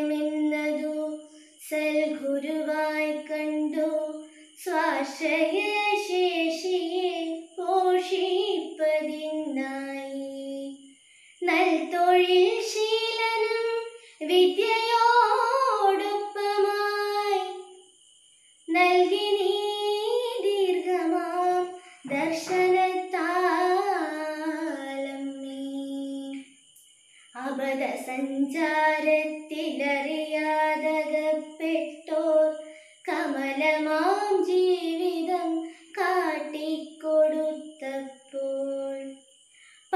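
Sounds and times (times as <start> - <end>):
woman singing unaccompanied: 0.0 - 17.9, 18.7 - 26.6, 27.3 - 39.2.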